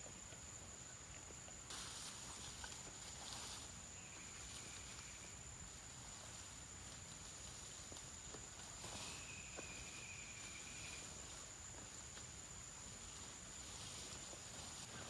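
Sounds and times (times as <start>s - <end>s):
insect trill: 0.0s - 15.0s
rustling noise: 1.7s - 15.0s.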